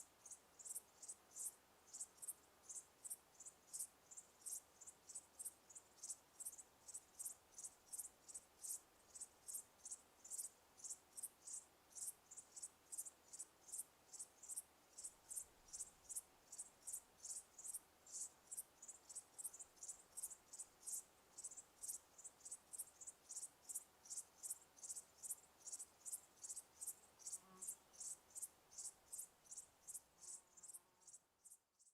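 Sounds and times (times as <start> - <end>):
cricket chirping: 0.0 - 31.9.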